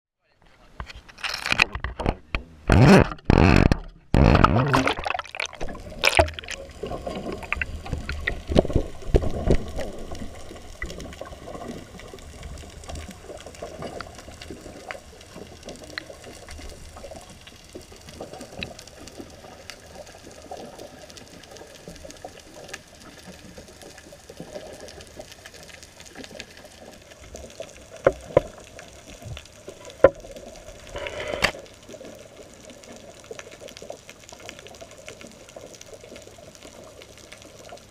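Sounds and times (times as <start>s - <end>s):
underwater bubbles rushing: 3.0s - 37.9s
steady low underwater hiss: 4.8s - 37.9s.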